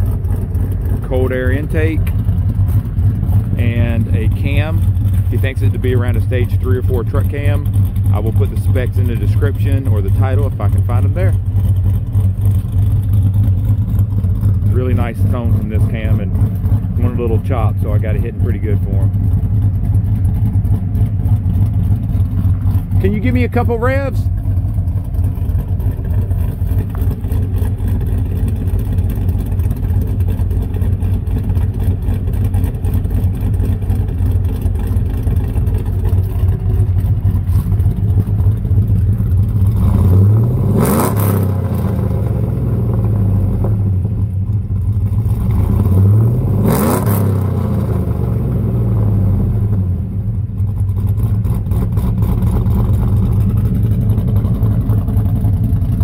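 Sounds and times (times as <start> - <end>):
engine revving: 0.0 - 56.0
truck engine idling with choppy lope: 0.0 - 56.0.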